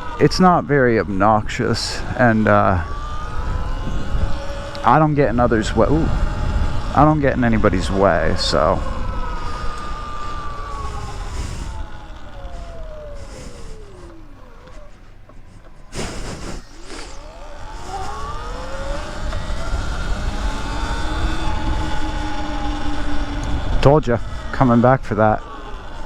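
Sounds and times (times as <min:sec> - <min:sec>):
electric dirt bike motor whine: 0:00.0 - 0:26.0
rush of noise: 0:00.0 - 0:26.0
wind rumble on microphone: 0:00.0 - 0:26.0.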